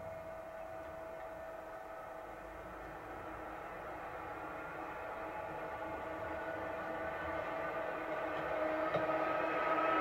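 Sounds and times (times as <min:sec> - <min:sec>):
electric locomotive humming: 0:00.0 - 0:10.0
tape hiss: 0:00.0 - 0:10.0.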